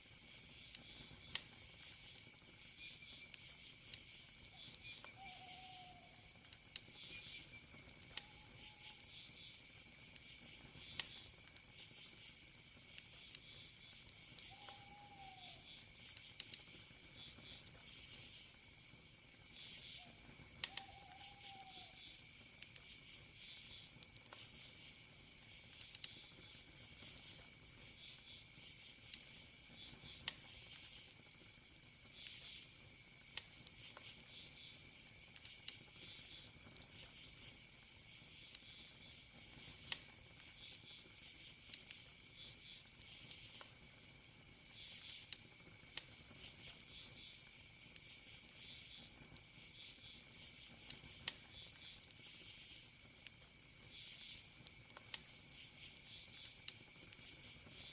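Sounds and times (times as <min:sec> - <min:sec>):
crickets chirping: 0:00.0 - 0:57.9
wood fire crackling and popping: 0:00.0 - 0:57.9
high insect trill: 0:00.1 - 0:57.9.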